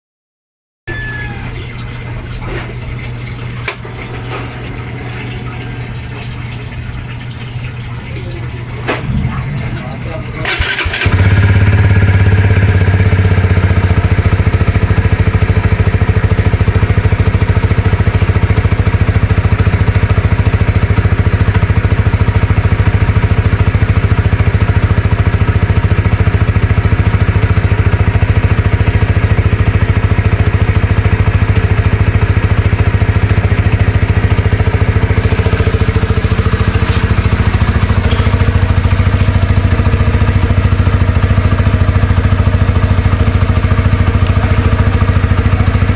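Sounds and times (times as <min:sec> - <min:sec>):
motorcycle engine idling: 0:04.5 - 0:08.4, 0:09.0 - 0:45.9.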